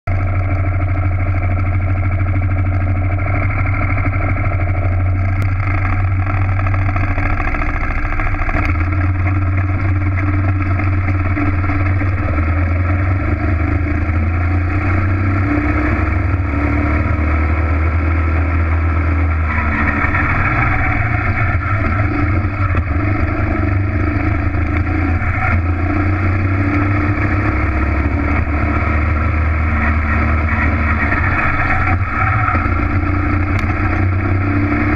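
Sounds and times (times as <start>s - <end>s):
kart engine revving: 0.1s - 34.9s.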